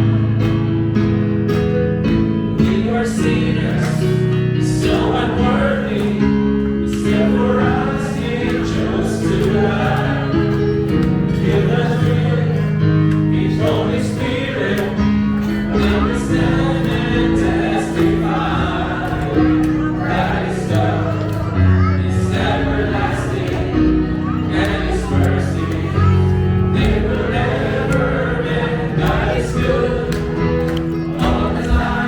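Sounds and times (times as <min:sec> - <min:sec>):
voices singing together: 0:02.5 - 0:32.0.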